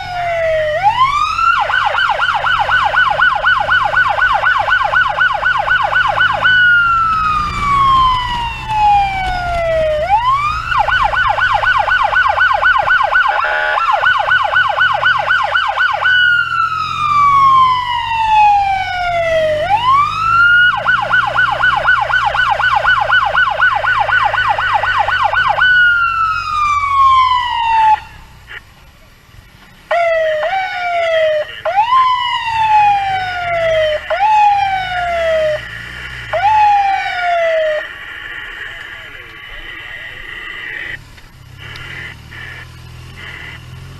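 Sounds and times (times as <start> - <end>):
ambulance siren yelp and wail: 0.0 - 28.6, 29.9 - 41.0
low rumble of traffic: 0.0 - 43.9.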